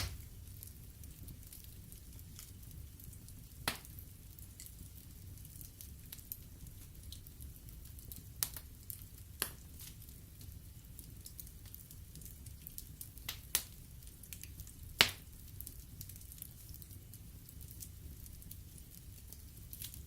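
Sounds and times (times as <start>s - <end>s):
sharp pops from burning logs: 0.0s - 20.0s
wood fire crackling: 0.0s - 20.0s.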